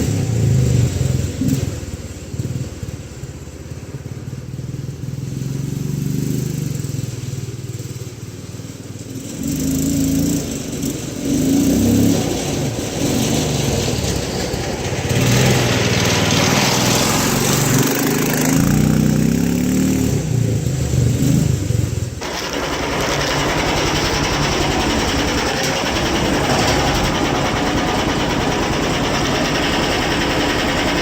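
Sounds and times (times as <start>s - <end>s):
small engine revving and idling: 0.0s - 31.0s.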